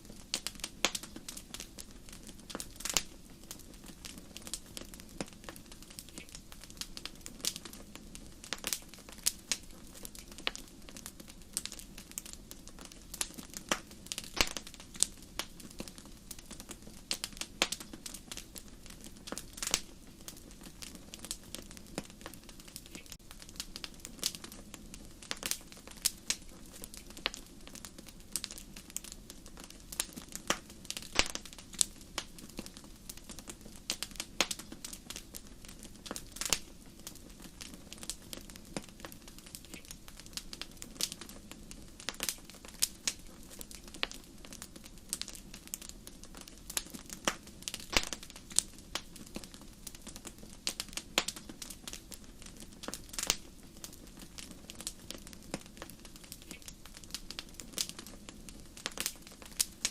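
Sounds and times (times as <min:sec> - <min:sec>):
fire pops and snaps: 0:00.0 - 0:59.9.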